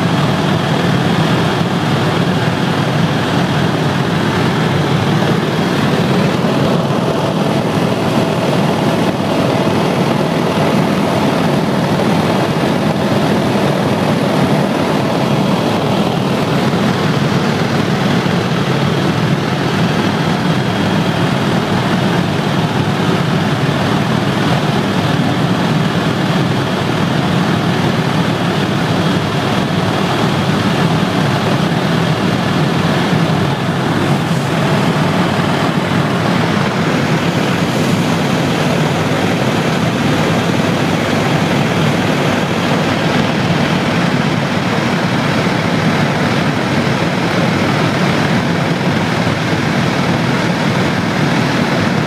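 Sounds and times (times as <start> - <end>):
helicopter rotor and engine: 0.0 - 52.0.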